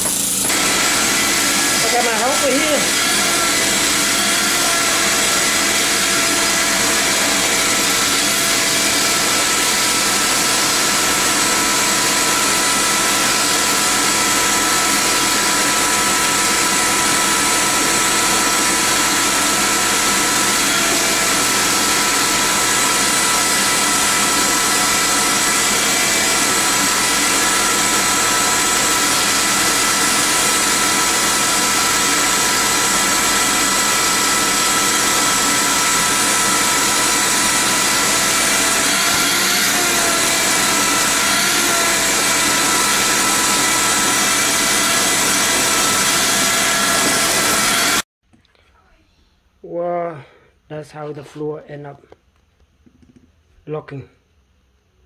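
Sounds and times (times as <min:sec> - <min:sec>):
vacuum cleaner motor whine: 0:00.0 - 0:48.0.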